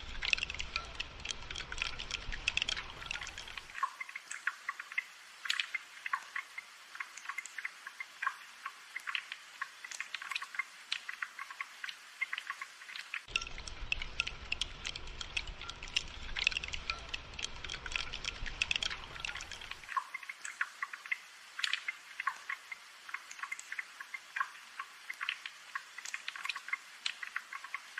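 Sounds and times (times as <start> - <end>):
rain pattering: 0.0 - 27.9.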